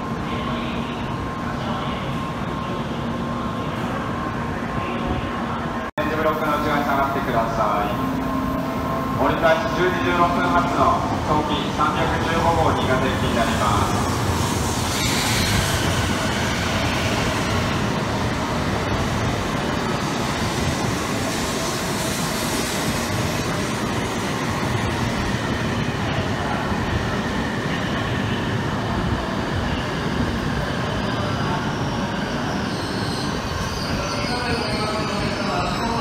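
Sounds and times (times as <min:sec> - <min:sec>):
train pulling into platform: 0:00.0 - 0:36.0.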